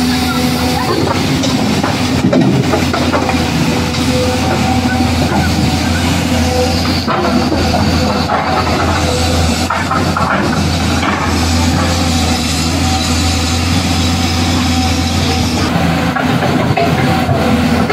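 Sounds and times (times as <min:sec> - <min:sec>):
heavy vehicle engine running: 0:00.0 - 0:17.9.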